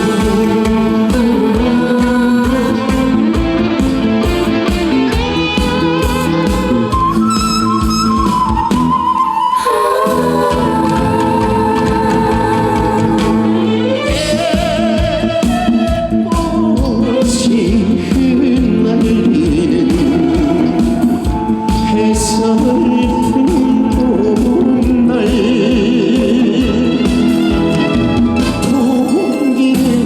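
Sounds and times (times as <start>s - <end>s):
man singing with vibrato: 0.0s - 7.6s, 9.6s - 30.0s
amplified backing band: 0.0s - 30.0s.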